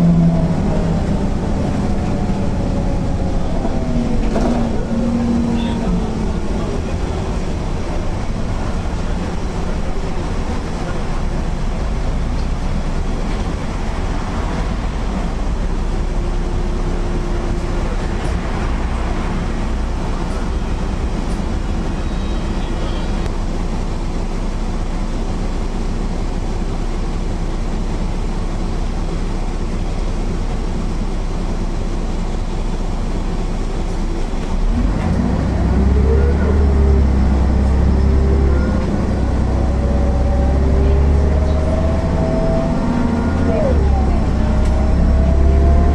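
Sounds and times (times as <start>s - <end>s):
bus engine droning: 0.0s - 45.9s.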